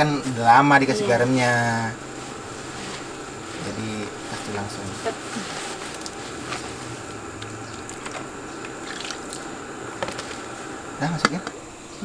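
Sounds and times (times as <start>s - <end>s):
water hissing in pot: 0.0s - 12.0s.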